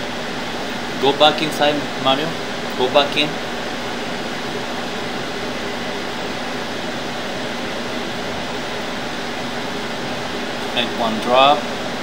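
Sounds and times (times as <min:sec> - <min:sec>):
mechanical hum with hiss: 0:00.0 - 0:12.0.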